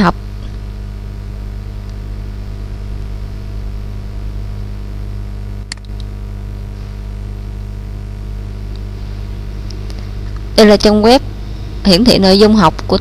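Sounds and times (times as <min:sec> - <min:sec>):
electrical mains hum and hiss: 0:00.0 - 0:13.0.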